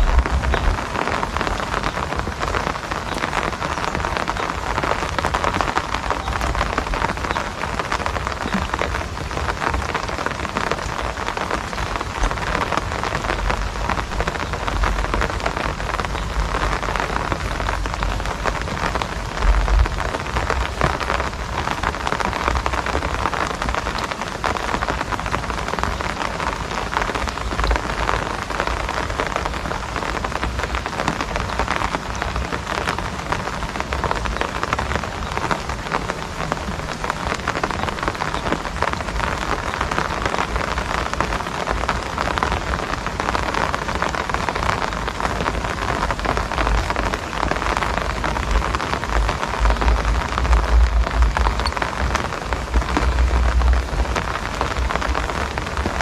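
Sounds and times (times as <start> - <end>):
low rumbles: 0.0 - 56.0
steady rain falling: 0.0 - 56.0.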